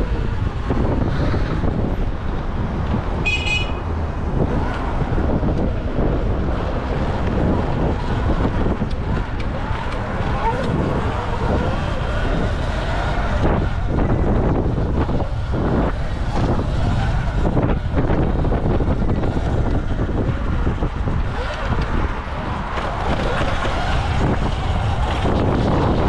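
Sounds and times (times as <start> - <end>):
tyres rumbling on cobblestones: 0.0 - 26.0
wind buffeting microphone: 0.0 - 26.0.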